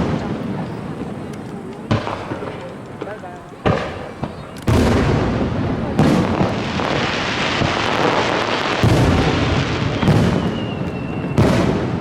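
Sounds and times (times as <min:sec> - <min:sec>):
fireworks booms: 0:00.0 - 0:12.0
fireworks crackling: 0:00.0 - 0:12.0
sharp fireworks bangs: 0:00.0 - 0:12.0.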